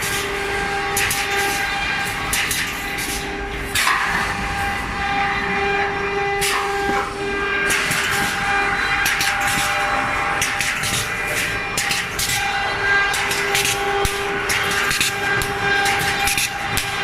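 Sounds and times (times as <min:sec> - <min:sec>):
welding machine humming: 0:00.0 - 0:17.0.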